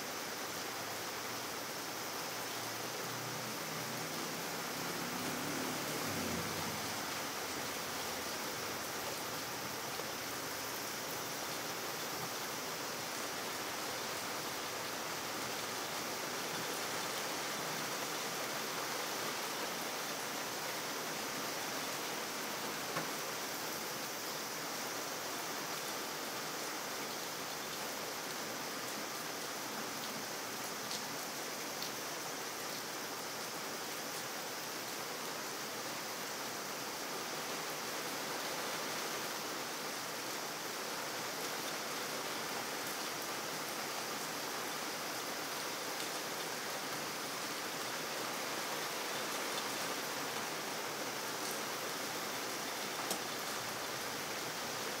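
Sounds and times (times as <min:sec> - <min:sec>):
rain on pavement: 0:00.0 - 0:55.0.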